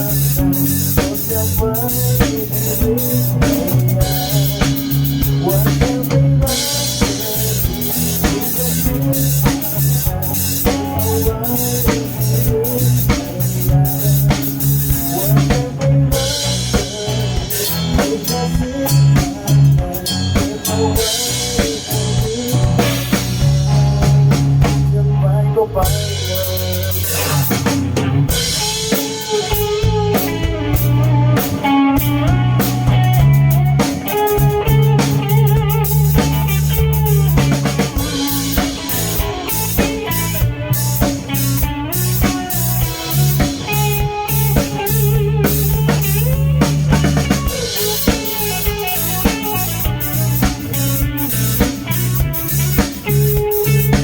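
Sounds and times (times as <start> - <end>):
drum kit beat: 0.0 - 25.0, 25.8 - 54.0
bass guitar: 0.0 - 54.0
guitar melody with bends: 0.0 - 54.0.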